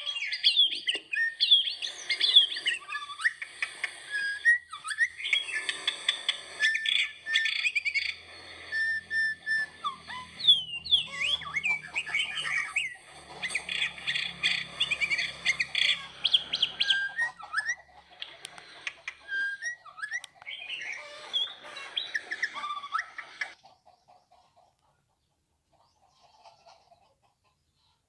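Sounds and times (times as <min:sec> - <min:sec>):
birds chirping and calling: 0:00.0 - 0:24.3.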